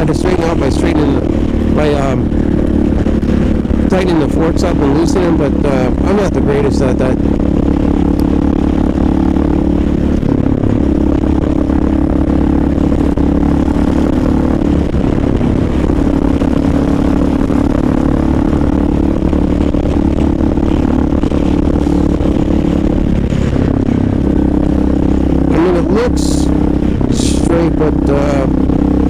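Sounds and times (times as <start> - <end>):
motorcycle engine running: 0.0 - 29.0
road and wind noise: 0.0 - 29.0.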